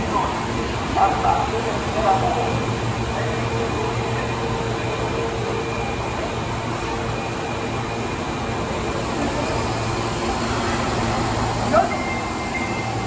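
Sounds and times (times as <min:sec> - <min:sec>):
subway train rolling: 0:00.0 - 0:13.0.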